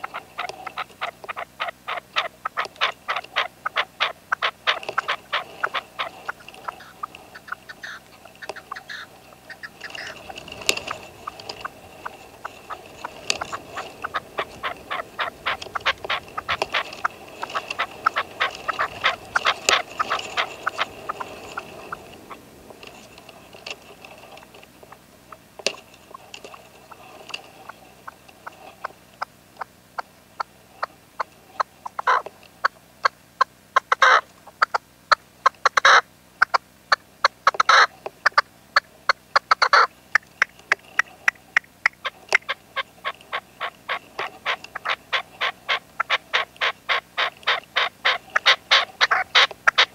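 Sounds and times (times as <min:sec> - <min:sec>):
partridge calling: 0:00.0 - 0:23.8, 0:24.4 - 0:32.3, 0:33.8 - 0:36.6, 0:37.2 - 0:49.9.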